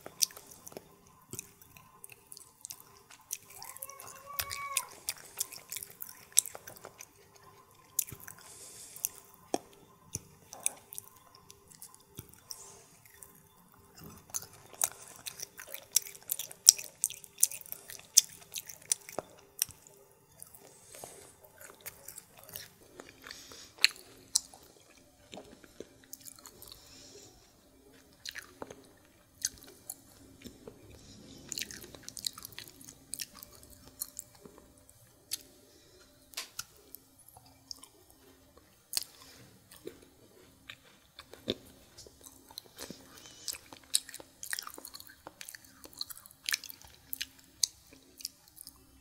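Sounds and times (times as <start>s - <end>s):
chewing and mouth sounds: 0.0s - 49.0s.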